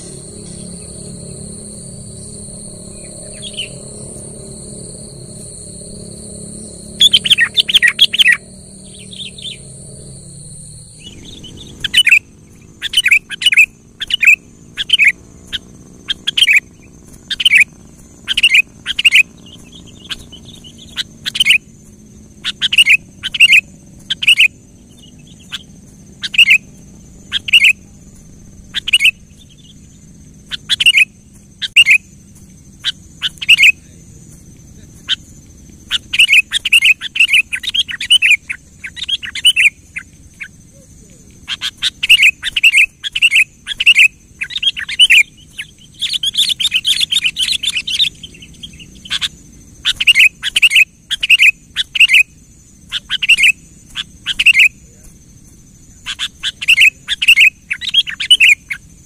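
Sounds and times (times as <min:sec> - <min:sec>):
bird calling in sharp notes: 0:00.0 - 0:55.0, 0:55.9 - 0:59.0
high-pitched whine: 0:00.0 - 0:59.0.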